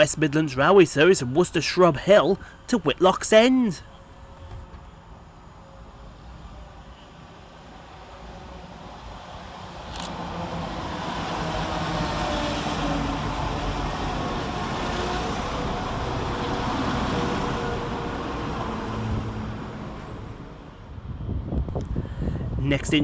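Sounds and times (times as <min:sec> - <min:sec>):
diesel train engine: 0:00.0 - 0:21.5.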